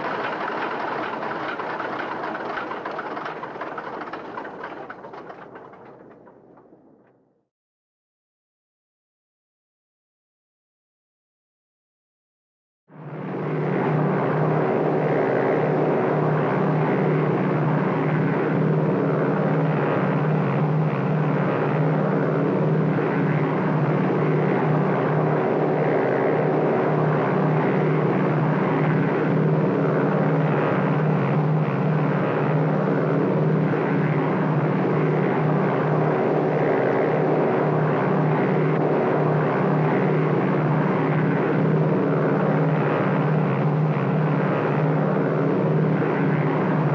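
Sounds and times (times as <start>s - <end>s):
propeller aircraft engines droning: 0.0s - 7.0s, 13.0s - 46.9s.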